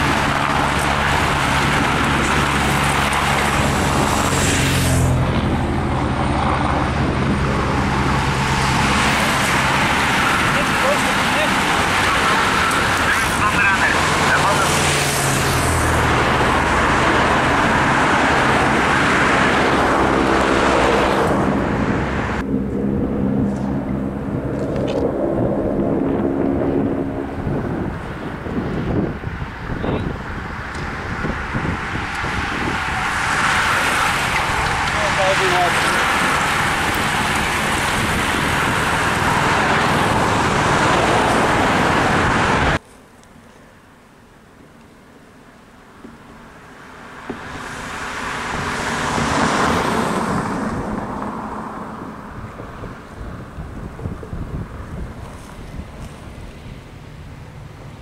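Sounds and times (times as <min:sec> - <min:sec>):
cars driving past: 0:00.0 - 0:42.8, 0:45.0 - 0:58.0.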